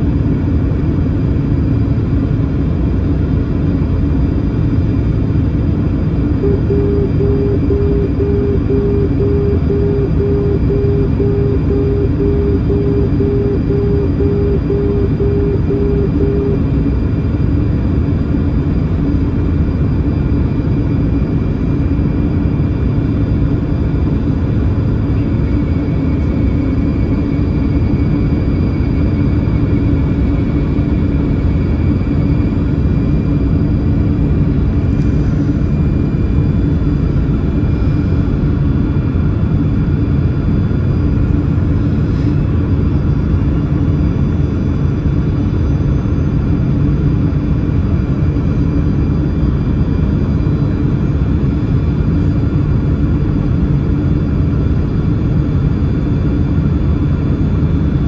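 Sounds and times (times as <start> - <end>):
faint steady whines: 0.0 - 58.0
jet engines humming in cabin: 0.0 - 58.0.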